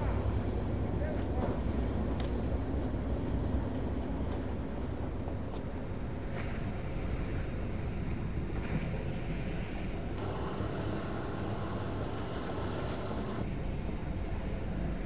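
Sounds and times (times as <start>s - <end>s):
motorboat engine: 0.0s - 13.5s.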